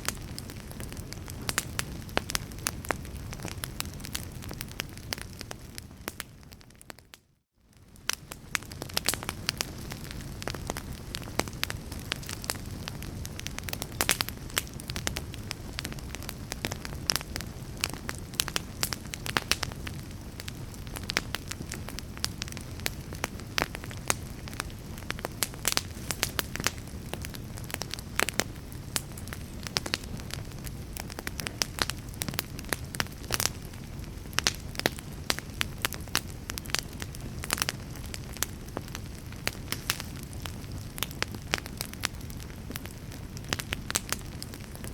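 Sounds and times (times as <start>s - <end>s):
fire crackling and popping: 0.0s - 44.9s
low rumble of flames: 0.0s - 44.9s.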